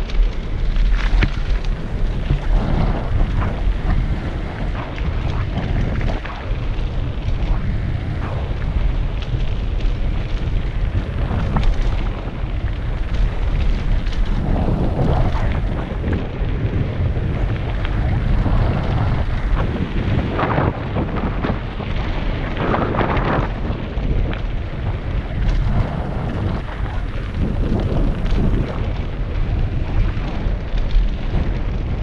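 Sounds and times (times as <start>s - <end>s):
bike rattling over rough road: 0.0s - 32.0s
wind buffeting microphone: 0.0s - 32.0s.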